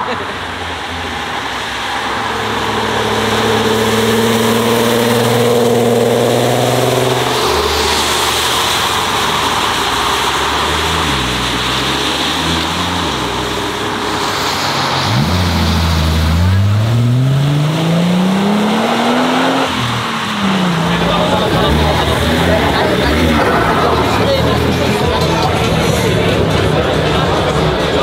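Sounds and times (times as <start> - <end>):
car engine accelerating: 0.0 - 28.0
rushing exhaust: 0.0 - 28.0.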